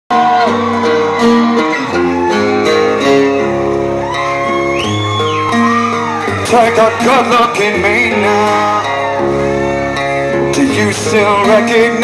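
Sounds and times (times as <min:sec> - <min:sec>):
acoustic guitar chords: 0:00.1 - 0:12.0.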